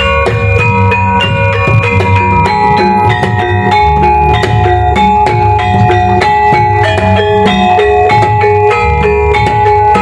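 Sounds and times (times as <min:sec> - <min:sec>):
large hand drum beats: 0:00.0 - 0:10.0.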